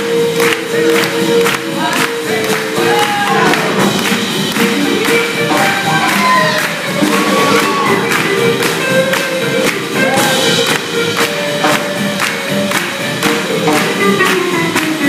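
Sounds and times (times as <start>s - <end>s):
live band playing swing music: 0.0s - 15.0s.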